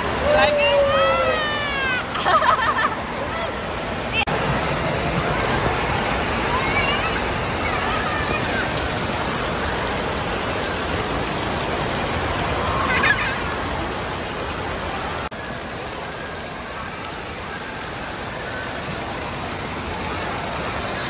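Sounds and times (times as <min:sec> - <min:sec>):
water spraying and splashing: 0:00.0 - 0:21.0.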